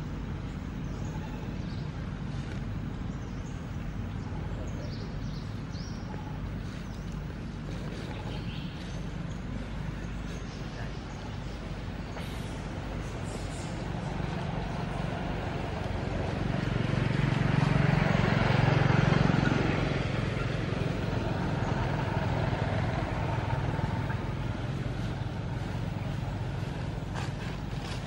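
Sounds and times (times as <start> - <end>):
road noise: 0.0 - 28.0
vehicle engine hum passing by: 0.0 - 28.0.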